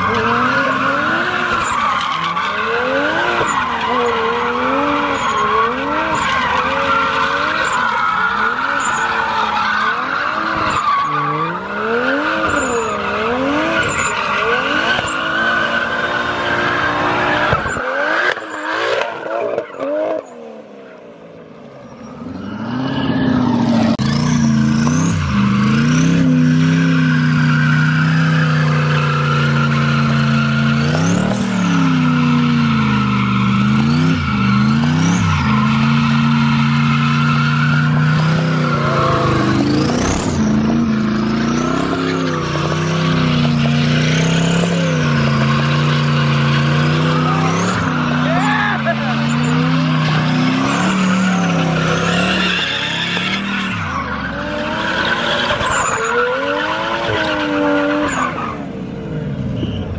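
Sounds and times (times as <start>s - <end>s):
car engine revving: 0.0s - 21.2s, 22.1s - 59.8s
tires squealing: 0.0s - 59.9s.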